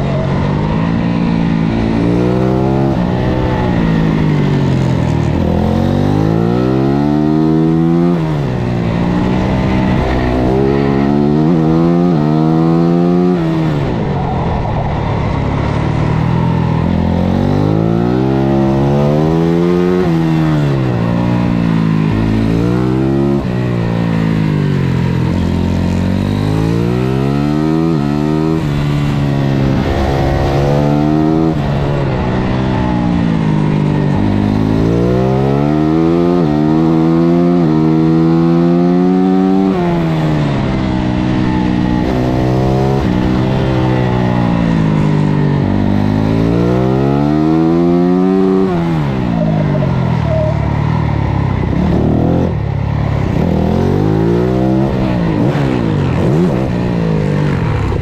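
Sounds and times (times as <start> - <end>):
motorcycle engine revving and shifting: 0.0 - 58.0.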